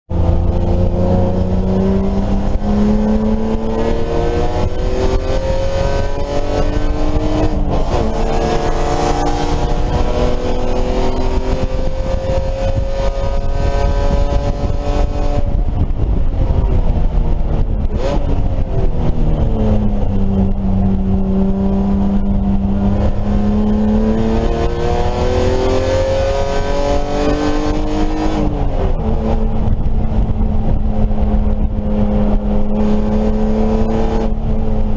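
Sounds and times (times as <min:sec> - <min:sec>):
low rumble of wind and road noise: 0:00.1 - 0:34.9
race car engine accelerating: 0:00.1 - 0:34.9.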